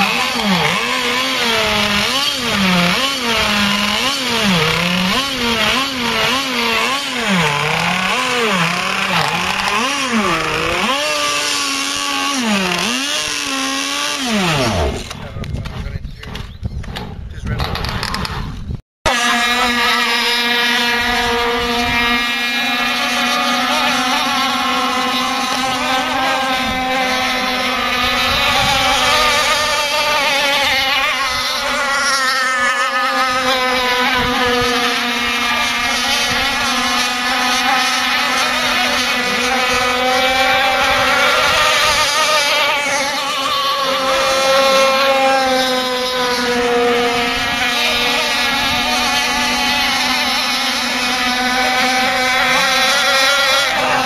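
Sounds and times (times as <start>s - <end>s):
model speedboat engine whine: 0.0s - 15.5s, 19.1s - 54.0s.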